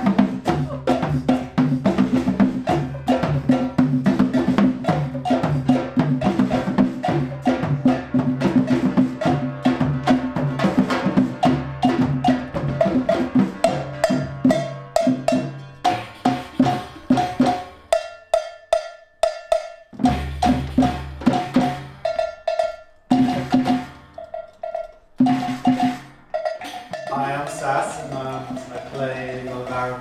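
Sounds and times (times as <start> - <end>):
barrel drum beating: 0.0 - 30.0
high bright tapping beat: 0.0 - 30.0
wooden drums struck with sticks: 0.0 - 30.0.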